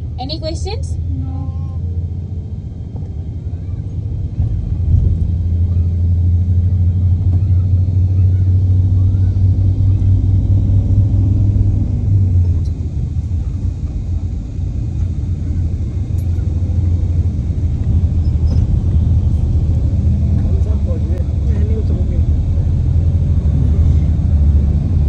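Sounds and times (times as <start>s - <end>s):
bus engine rumble: 0.0s - 25.0s
road noise: 0.0s - 25.0s.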